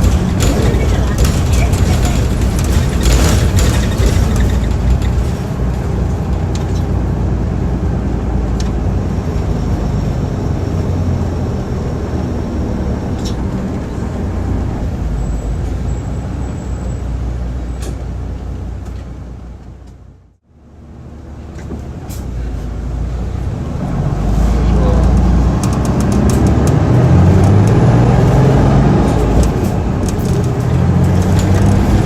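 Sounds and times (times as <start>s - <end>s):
bus diesel engine drone: 0.0s - 32.0s.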